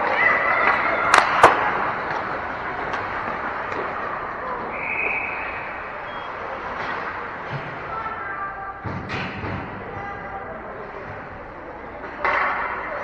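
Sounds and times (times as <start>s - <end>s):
arena din of skates and spectators: 0.0s - 13.0s.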